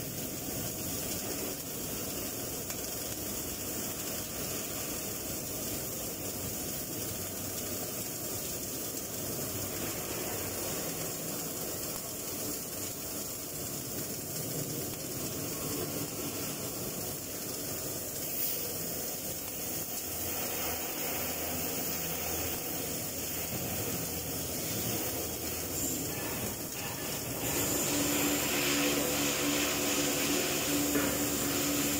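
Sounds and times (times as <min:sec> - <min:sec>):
welding arc hissing: 0:00.0 - 0:31.9.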